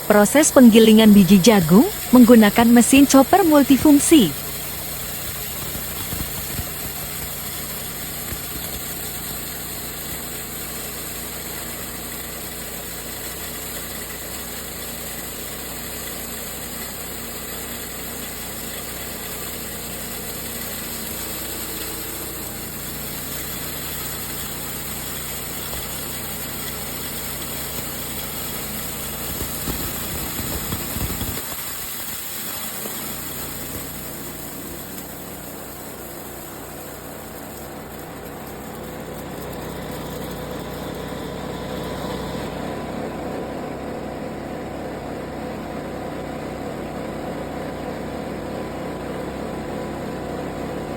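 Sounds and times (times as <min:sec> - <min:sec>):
grass chopper grinding corn: 0:00.0 - 0:44.5.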